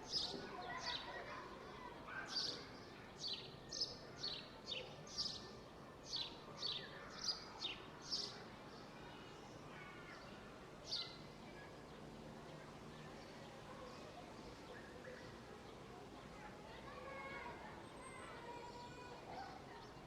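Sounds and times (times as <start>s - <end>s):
faint outdoor background noise: 0.0s - 20.0s.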